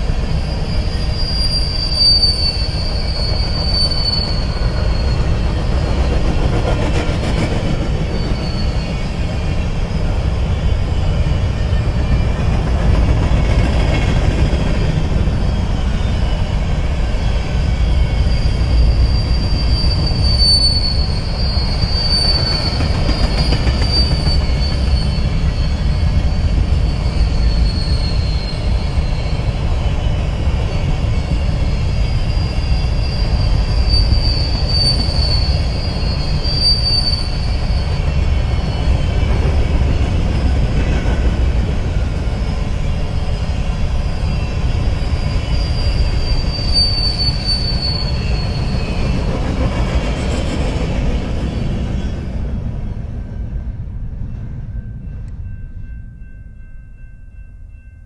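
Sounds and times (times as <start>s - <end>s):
high-pitched wheel squeal: 0.0s - 12.5s, 15.0s - 41.2s, 42.2s - 50.6s
train wheels rumbling on rail: 0.0s - 58.0s.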